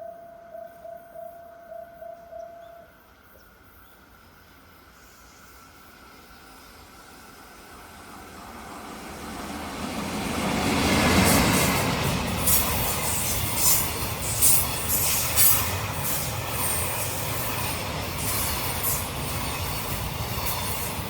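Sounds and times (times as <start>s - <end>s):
train wheels on rails: 3.1s - 21.0s.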